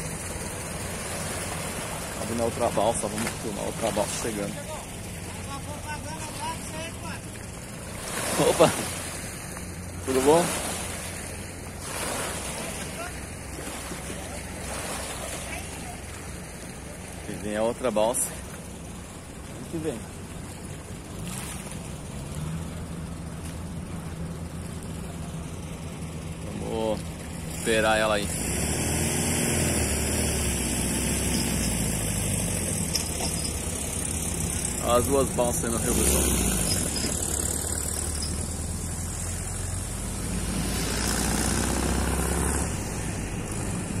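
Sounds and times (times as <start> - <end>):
boat engine drone: 0.0 - 44.0.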